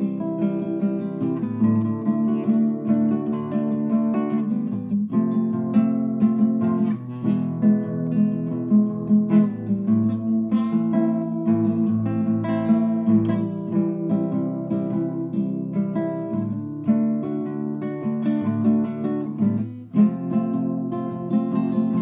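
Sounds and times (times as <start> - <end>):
acoustic guitar playing chords: 0.0 - 22.0.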